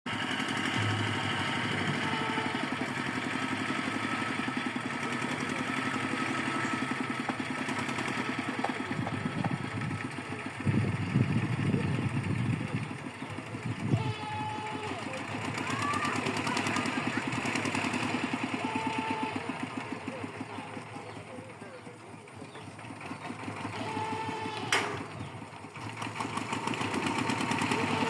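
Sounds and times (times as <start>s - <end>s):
boat engine running: 0.1s - 28.0s.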